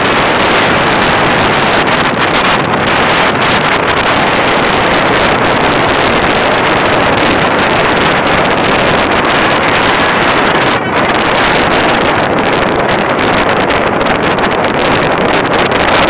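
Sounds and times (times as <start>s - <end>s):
wind rushing across microphone: 0.0s - 16.0s.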